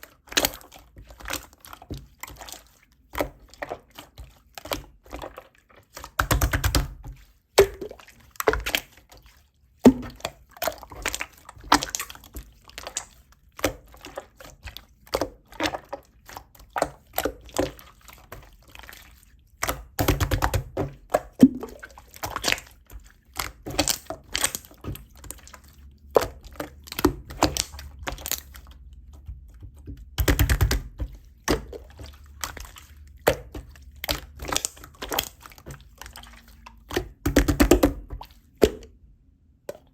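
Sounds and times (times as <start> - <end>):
slime squished by hand: 0.0 - 39.0.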